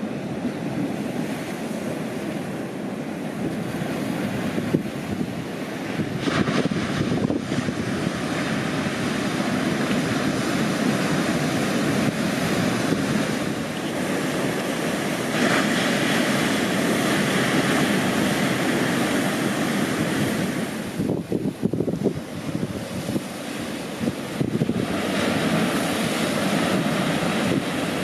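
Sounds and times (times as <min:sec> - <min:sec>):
surf breaking and washing: 0:00.0 - 0:28.0
wind buffeting microphone: 0:00.0 - 0:28.0.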